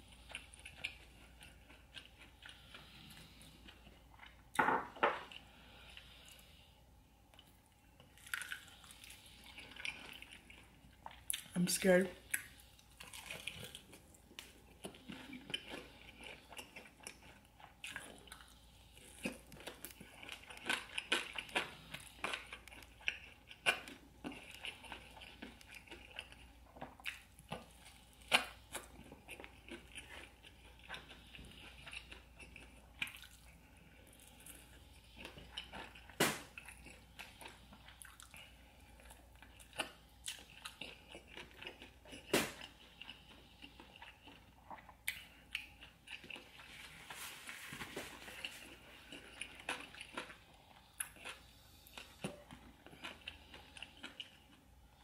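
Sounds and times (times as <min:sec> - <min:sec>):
person chewing wetly: 0:00.0 - 0:04.6, 0:07.3 - 0:11.5, 0:12.2 - 0:47.2, 0:48.1 - 0:55.0
crunches of fried chicken: 0:08.0 - 0:55.0.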